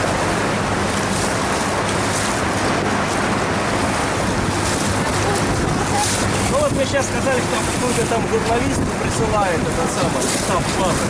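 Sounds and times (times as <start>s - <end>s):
motorboat engine hum: 0.0s - 11.0s
water rushing along hull: 0.0s - 11.0s
wind buffeting microphone: 0.0s - 11.0s.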